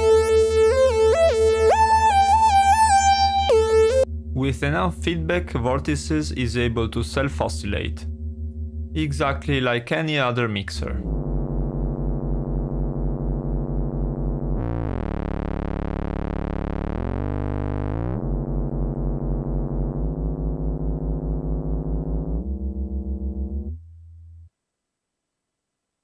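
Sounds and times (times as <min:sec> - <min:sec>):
buzzy synthesizer drone with wobble: 0:00.0 - 0:23.8.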